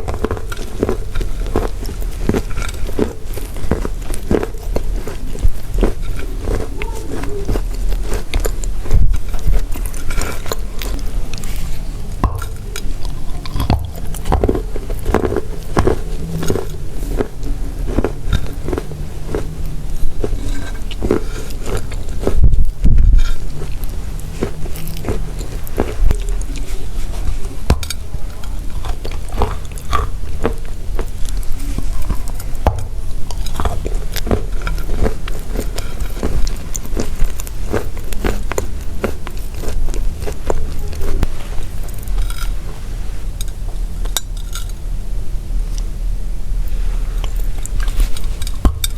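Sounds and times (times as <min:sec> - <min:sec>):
chalk being chewed: 0:00.0 - 0:42.7, 0:47.2 - 0:48.9.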